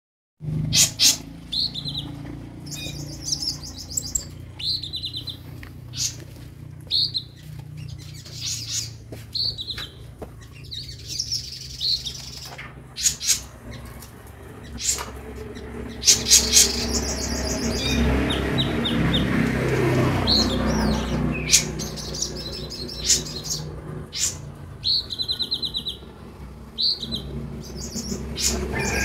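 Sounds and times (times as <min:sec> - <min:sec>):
birds chirping and trilling: 0:00.5 - 0:29.0.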